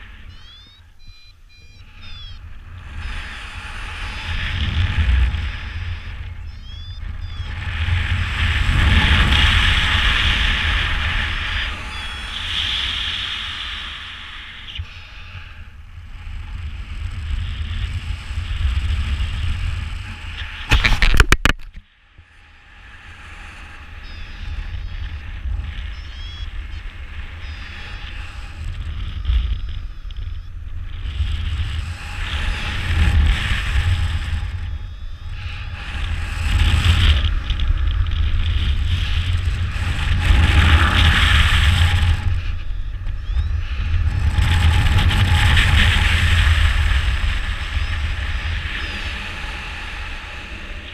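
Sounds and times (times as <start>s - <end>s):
wind buffeting microphone: 0.0s - 21.8s, 22.7s - 50.9s.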